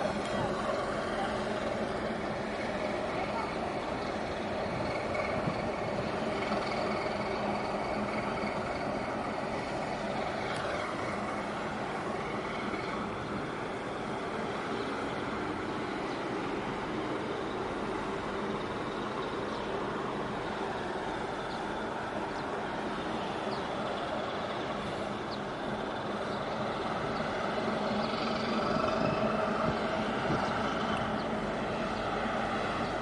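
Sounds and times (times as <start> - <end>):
ship engine drone: 0.0 - 33.0
water noise: 0.0 - 33.0
wind: 0.0 - 33.0.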